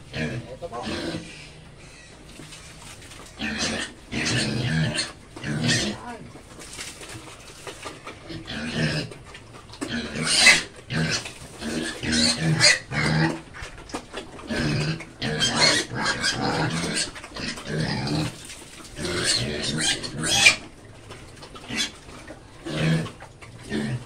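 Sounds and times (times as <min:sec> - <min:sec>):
pigs grunting and squealing: 0:00.0 - 0:24.0.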